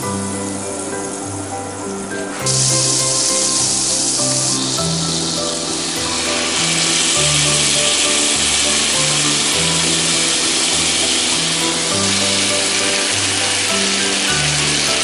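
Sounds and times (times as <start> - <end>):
background music with bass: 0.0 - 15.0
chicken sizzling in a pan: 2.5 - 15.0.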